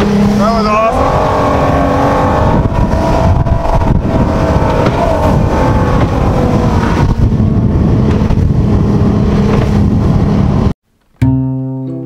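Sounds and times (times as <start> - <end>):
speed boat engine running: 0.0 - 10.8
wind and water rushing: 0.0 - 10.8.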